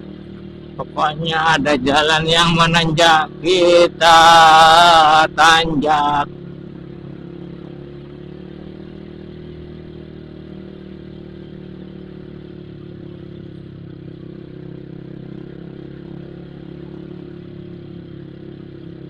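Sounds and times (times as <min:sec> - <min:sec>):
motorcycle engine humming: 0:00.0 - 0:19.0.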